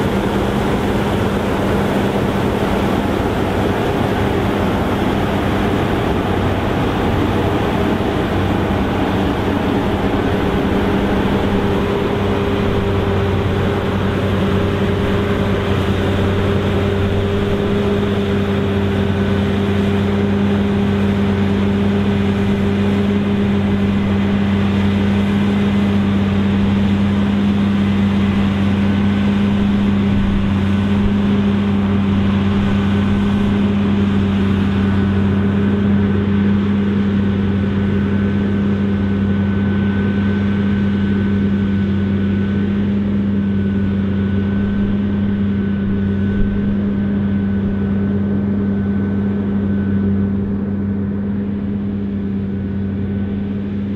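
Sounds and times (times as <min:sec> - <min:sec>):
combine harvester drone: 0:00.0 - 0:53.9.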